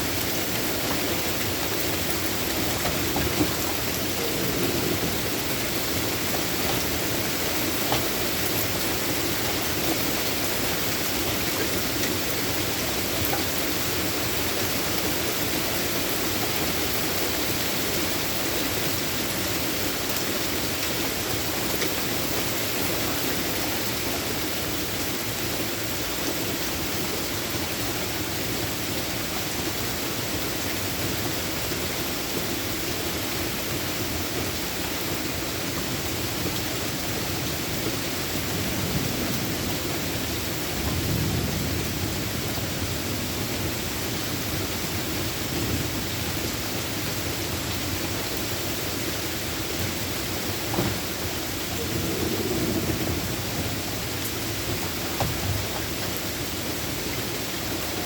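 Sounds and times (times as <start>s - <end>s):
heavy rain hiss: 0.0s - 58.0s.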